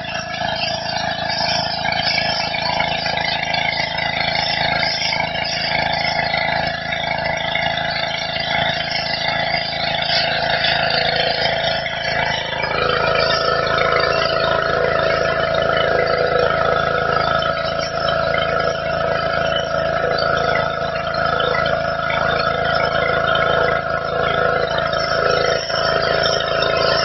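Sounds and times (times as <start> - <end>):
pressure washer engine hum: 0.0 - 27.0.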